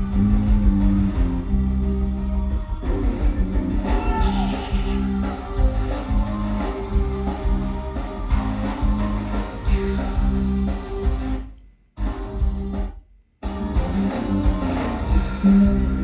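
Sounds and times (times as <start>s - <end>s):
repeating bass line: 0.0s - 16.0s.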